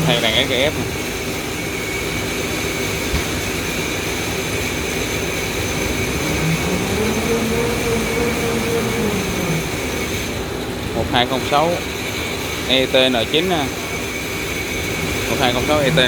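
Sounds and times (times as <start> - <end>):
even mechanical noise: 0.0 - 16.0
machine high whine: 0.0 - 16.0.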